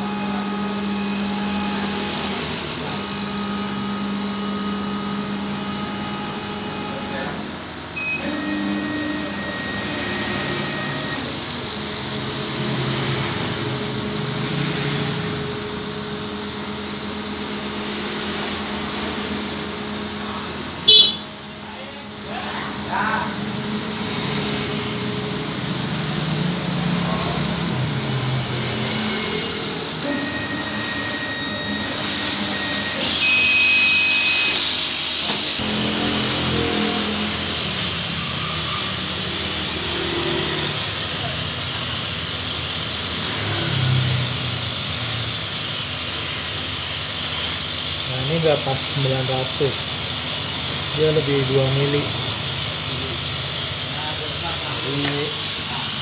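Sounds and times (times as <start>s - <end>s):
laser cutting machine humming: 0.0s - 56.0s.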